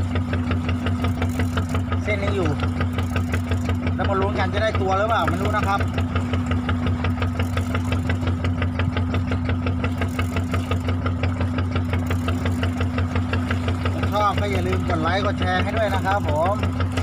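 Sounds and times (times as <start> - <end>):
boat engine knocking: 0.0 - 17.0
constant low hum: 0.0 - 17.0.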